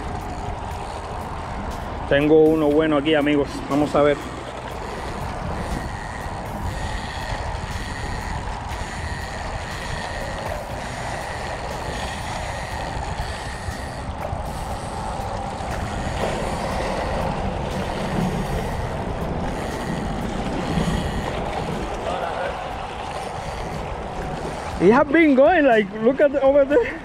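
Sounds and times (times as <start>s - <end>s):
fishing reel cranking: 0.0s - 27.0s
wind rumbling on microphone: 0.0s - 27.0s.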